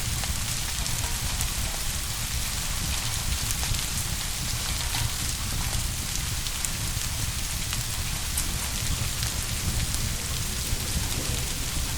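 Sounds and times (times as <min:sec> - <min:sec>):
low constant rumble: 0:00.0 - 0:11.9
steady rain: 0:00.0 - 0:11.9.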